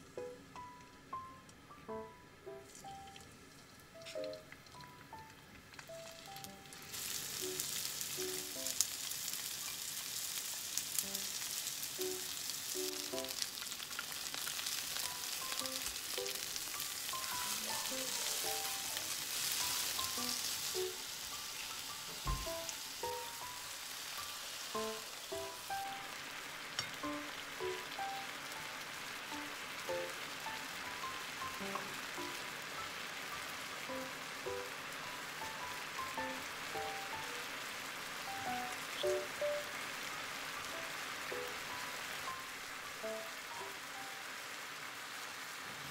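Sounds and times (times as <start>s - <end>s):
fish sizzling in oil: 2.4s - 45.9s.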